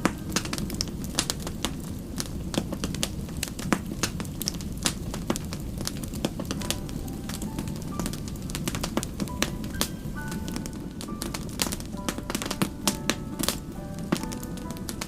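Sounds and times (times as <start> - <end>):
wood campfire crackling and popping: 0.0 - 15.0.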